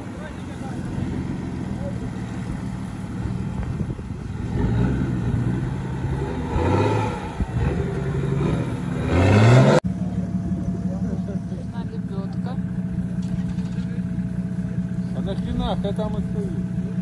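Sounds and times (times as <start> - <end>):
off-road buggy engine revving: 0.0 - 17.0.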